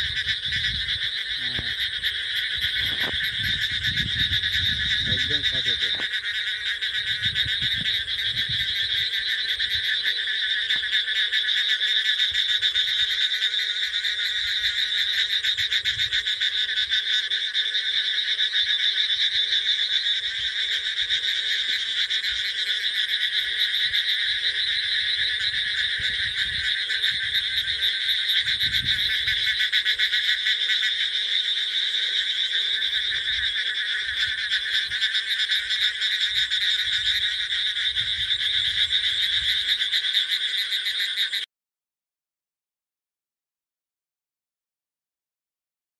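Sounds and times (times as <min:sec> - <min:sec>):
frogs chorus trilling: 0:00.0 - 0:41.5.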